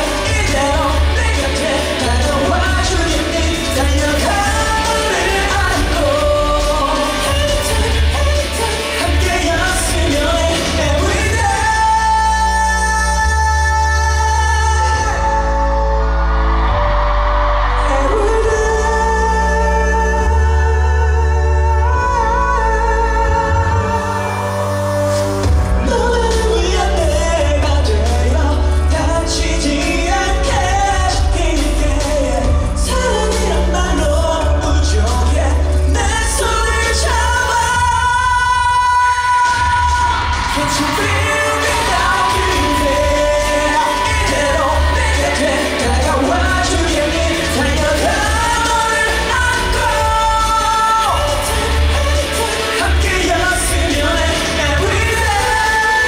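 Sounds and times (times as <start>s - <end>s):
man singing into microphone: 0.0s - 56.0s
pop music with bass beat: 0.0s - 56.0s.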